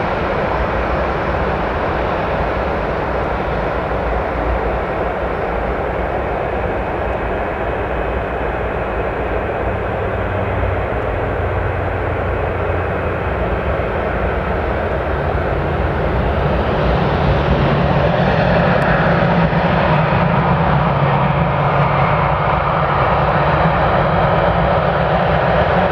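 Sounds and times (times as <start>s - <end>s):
jet engines rumbling: 0.0s - 25.9s.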